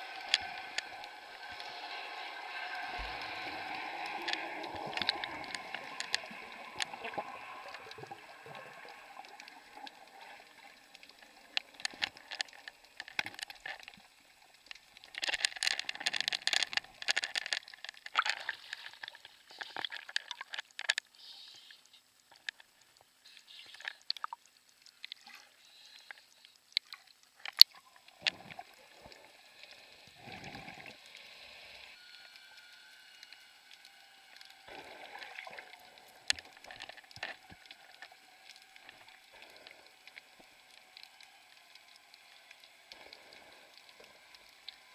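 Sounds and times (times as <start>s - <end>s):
water sloshing and gurgling: 0.0s - 21.1s, 26.7s - 32.4s, 33.6s - 44.9s
small clicks: 0.1s - 1.8s, 3.0s - 44.9s.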